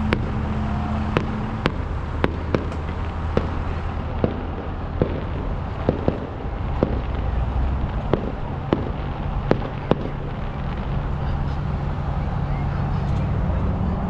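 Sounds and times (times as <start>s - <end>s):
fireworks bangs: 0.0s - 13.6s.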